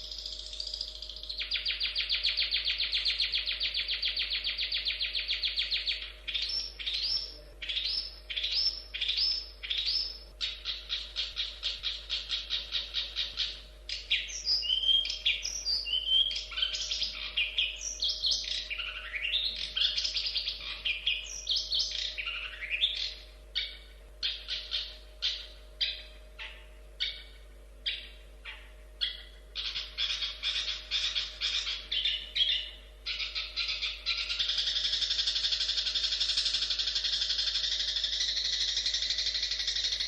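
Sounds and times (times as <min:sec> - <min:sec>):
shrike singing: 0:00.0 - 0:40.0.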